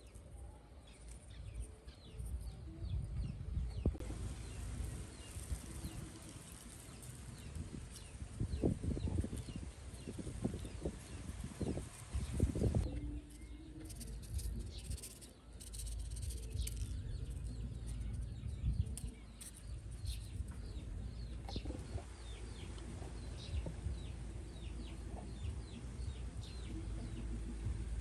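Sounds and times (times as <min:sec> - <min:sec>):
birds chirping: 0:00.0 - 0:28.0
steady low rumble: 0:02.4 - 0:28.0.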